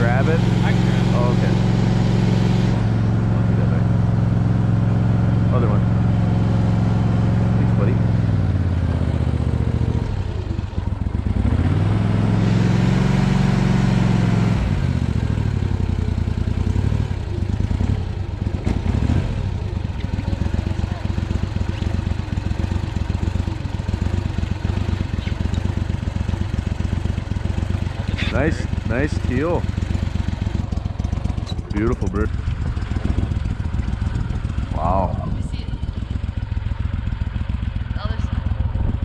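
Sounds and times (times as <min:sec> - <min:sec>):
boat motor running: 0:00.0 - 0:39.0.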